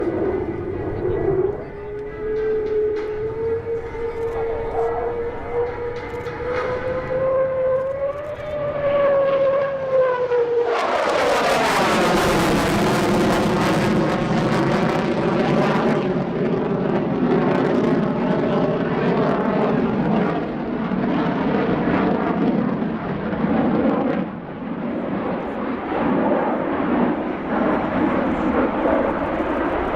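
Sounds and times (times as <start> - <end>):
jet fighter passing: 0.0 - 29.9.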